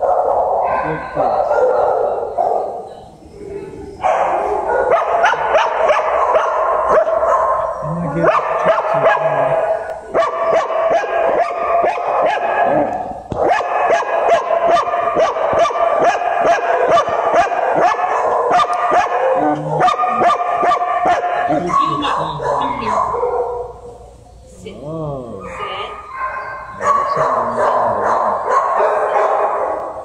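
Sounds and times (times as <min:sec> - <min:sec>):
many dogs barking and yipping: 0:00.0 - 0:23.9, 0:25.4 - 0:30.0.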